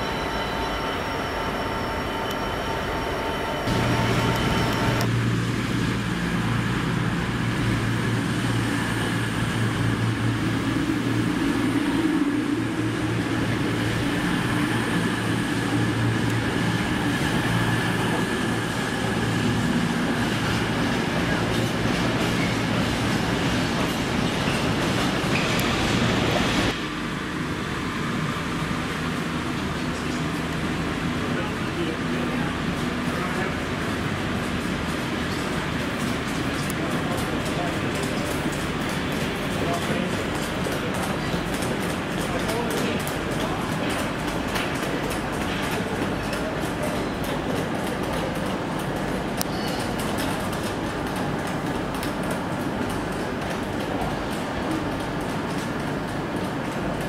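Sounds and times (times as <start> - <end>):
train low drone and rushing: 0.0 - 57.0.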